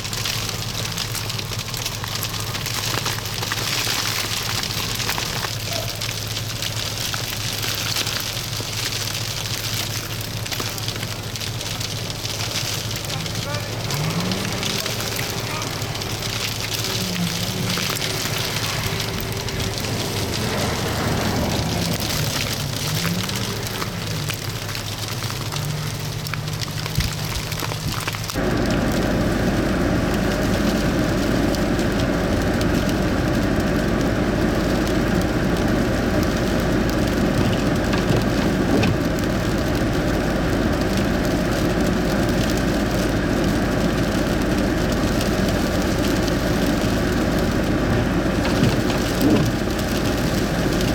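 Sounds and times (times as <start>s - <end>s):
precipitation hissing and pattering: 0.0s - 50.9s.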